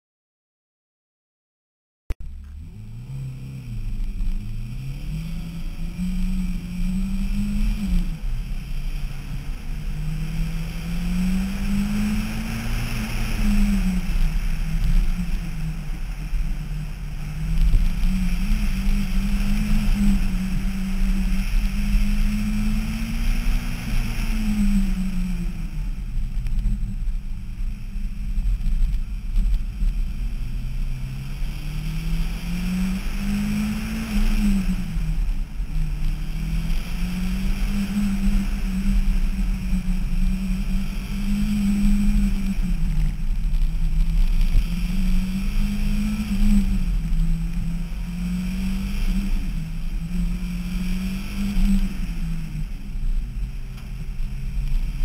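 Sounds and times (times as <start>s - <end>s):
car engine revving: 2.2s - 55.0s.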